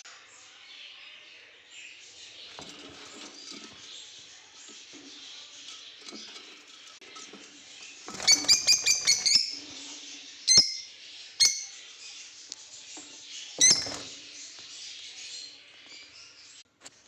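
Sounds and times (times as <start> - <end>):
lovebirds chirping chatter: 0.0 - 16.7.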